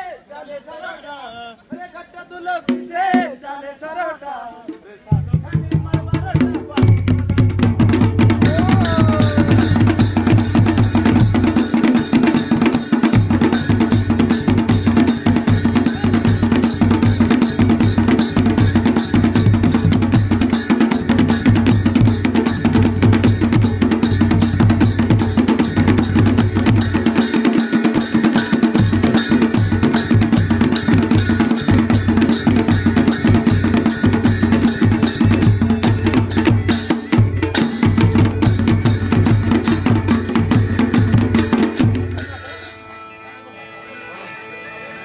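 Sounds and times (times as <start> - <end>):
drums beating: 1.7 - 3.5, 4.6 - 43.1.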